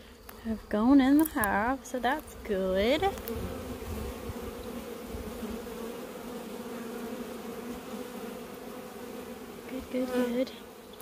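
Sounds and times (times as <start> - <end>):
bee swarm buzzing: 0.1 - 11.0.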